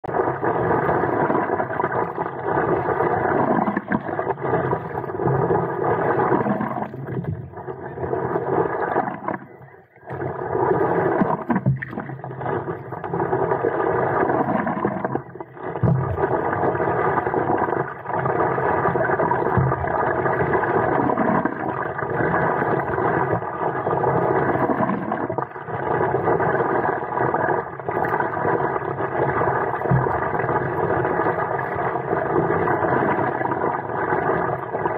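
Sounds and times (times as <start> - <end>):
muffled wind and water rushing: 0.0 - 34.9.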